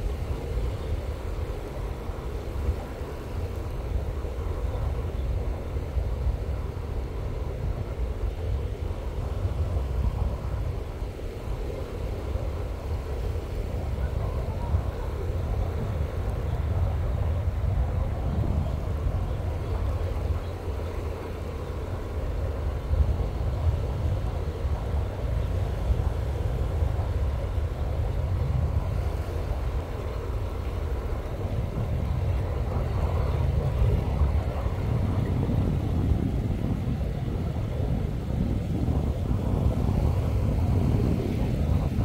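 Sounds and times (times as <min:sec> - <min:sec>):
faint outdoor wash: 0:00.0 - 0:42.0
wind buffeting microphone: 0:00.0 - 0:42.0.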